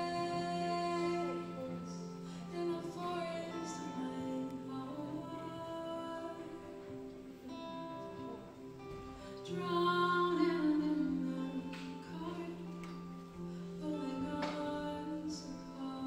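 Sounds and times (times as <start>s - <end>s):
acoustic guitar: 0.0s - 16.0s
woman singing: 0.0s - 16.0s.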